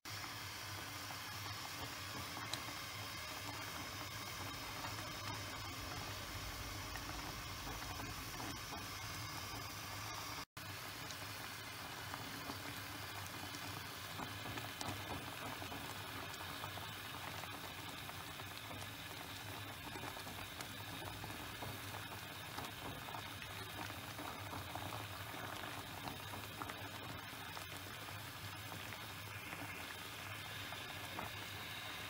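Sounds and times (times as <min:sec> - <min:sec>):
water boiling in pot: 0:00.1 - 0:32.0.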